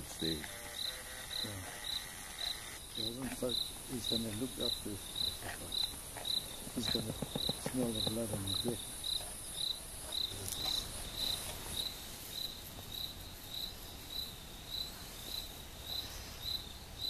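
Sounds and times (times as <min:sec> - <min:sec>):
cricket chirping: 0:00.0 - 0:17.0
high insect hiss: 0:00.0 - 0:17.0.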